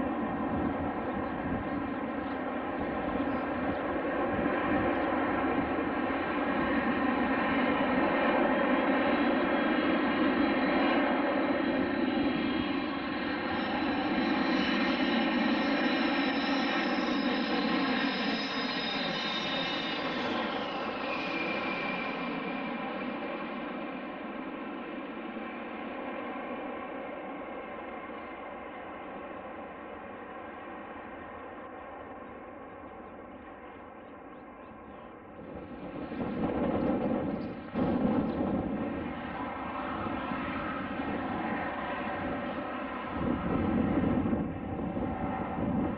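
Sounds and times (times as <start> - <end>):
aircraft engines running: 0.0 - 45.9.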